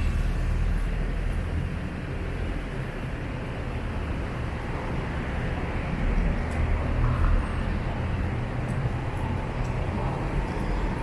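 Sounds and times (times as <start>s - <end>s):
rumble of passing cars: 0.0s - 11.0s.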